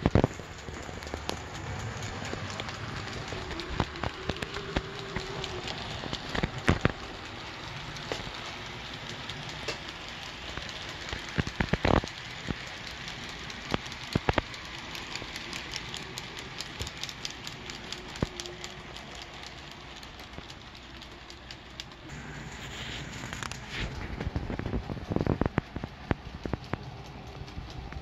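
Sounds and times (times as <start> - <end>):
clicks of train wheels on track: 0.0 - 28.0
model train rolling rumble: 0.0 - 28.0.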